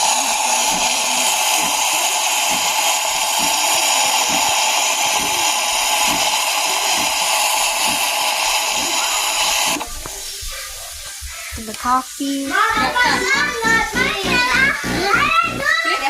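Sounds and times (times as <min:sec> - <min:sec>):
steam wand frothing milk: 0:00.0 - 0:11.3, 0:12.2 - 0:16.0.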